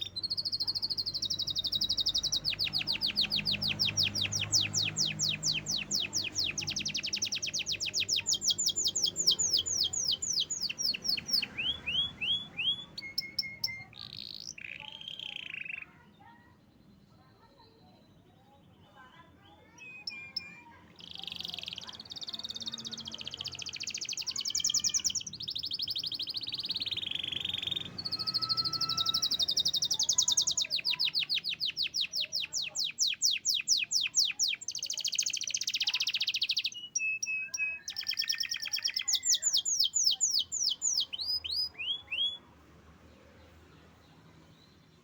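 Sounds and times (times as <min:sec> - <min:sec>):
canary singing trills: 0:00.0 - 0:45.0.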